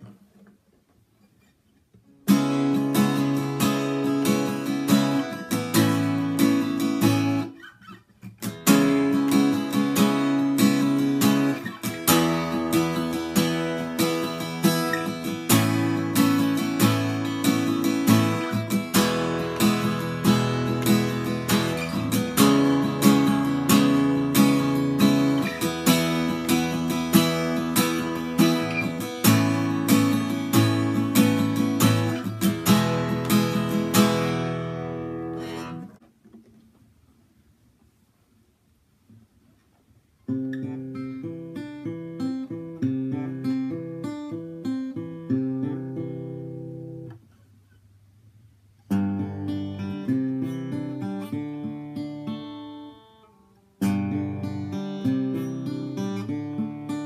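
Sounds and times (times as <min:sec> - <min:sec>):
acoustic guitar strumming chords: 0:02.1 - 0:36.1, 0:40.3 - 0:47.2, 0:48.9 - 0:57.0.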